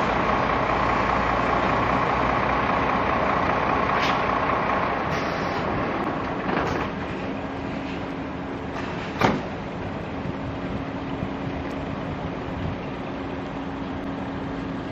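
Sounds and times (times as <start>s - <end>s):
truck engine driving away: 0.0s - 14.9s.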